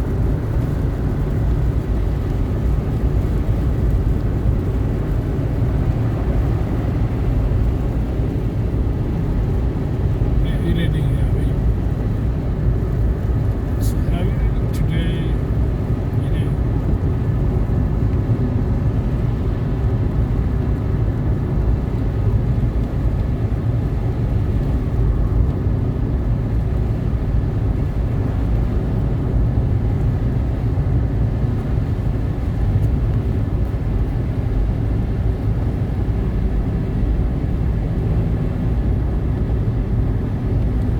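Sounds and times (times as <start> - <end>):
car rumbling: 0.0 - 40.9.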